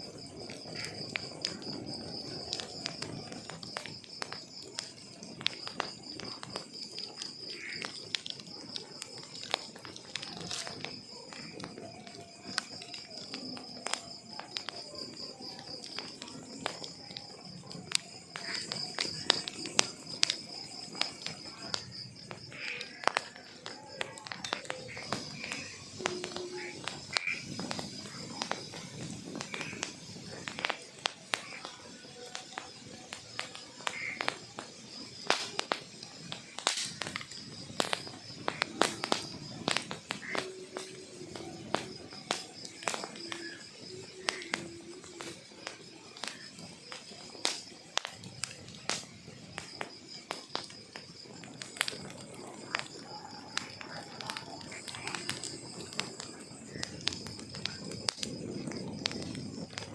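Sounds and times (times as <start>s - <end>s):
burning logs crackling and popping: 0.0s - 59.9s.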